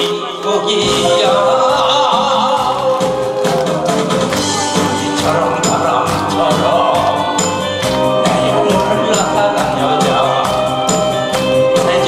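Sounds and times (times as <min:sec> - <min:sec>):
man singing into a microphone: 0:00.0 - 0:03.5, 0:04.8 - 0:12.0
musical accompaniment: 0:00.0 - 0:12.0.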